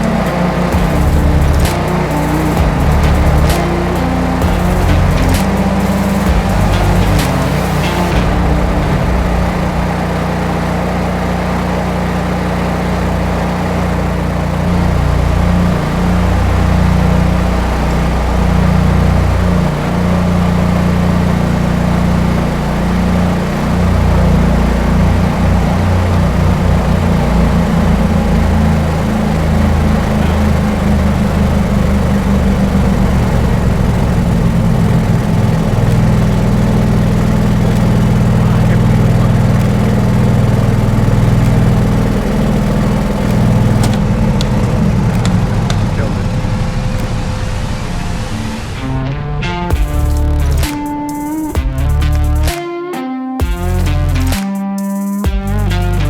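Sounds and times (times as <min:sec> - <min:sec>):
generator engine running: 0:00.0 - 0:52.6, 0:53.4 - 0:54.4, 0:55.2 - 0:56.0.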